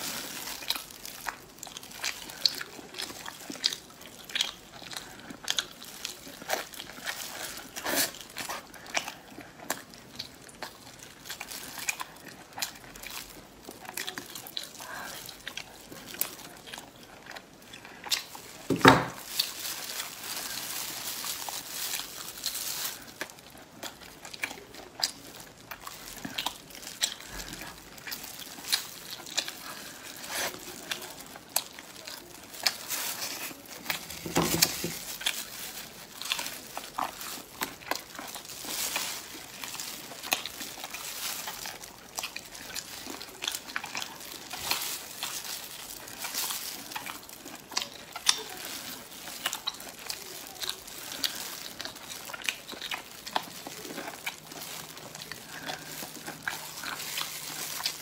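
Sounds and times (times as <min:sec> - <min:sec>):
plastic gloves crinkling: 0:00.0 - 0:58.0
wet chewing: 0:00.0 - 0:58.0.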